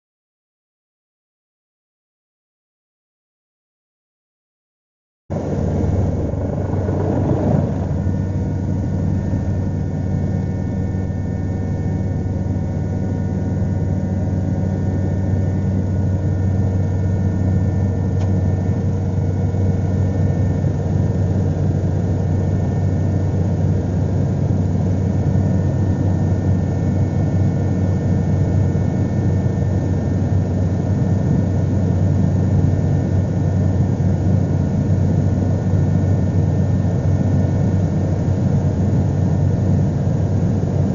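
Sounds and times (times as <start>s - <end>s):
helicopter rotor and engine drone: 5.3s - 40.9s.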